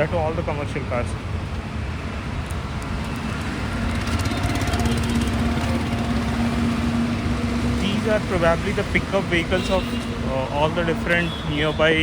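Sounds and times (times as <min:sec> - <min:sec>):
road traffic noise: 0:00.0 - 0:12.0
vehicle engine hum: 0:00.0 - 0:12.0.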